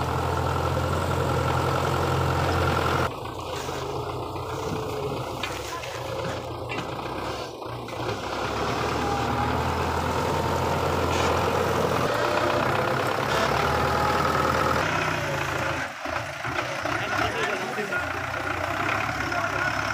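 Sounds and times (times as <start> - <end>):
tractor diesel engine under load: 0.0 - 19.9.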